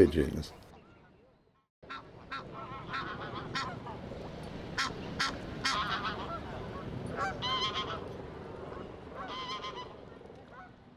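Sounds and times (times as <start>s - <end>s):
waterbirds harsh calls: 0.0s - 10.8s
low outdoor background: 0.0s - 10.9s.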